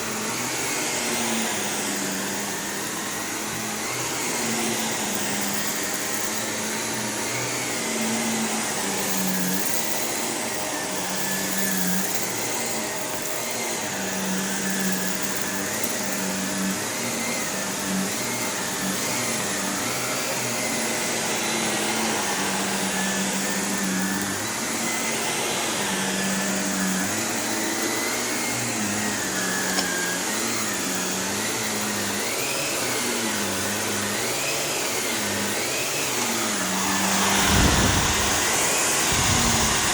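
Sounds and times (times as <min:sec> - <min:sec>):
vacuum cleaner on carpet: 0:00.0 - 0:39.9.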